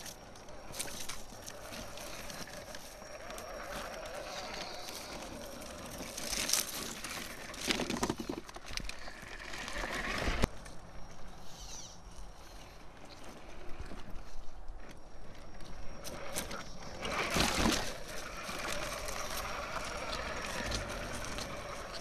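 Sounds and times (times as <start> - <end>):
small electric motor whining: 0.0 - 10.5, 11.3 - 22.0
tyres scrabbling on rock: 0.0 - 10.5, 13.0 - 22.0.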